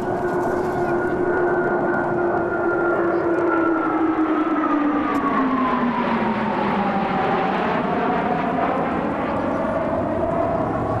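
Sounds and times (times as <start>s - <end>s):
fighter jets roaring overhead: 0.0s - 11.0s.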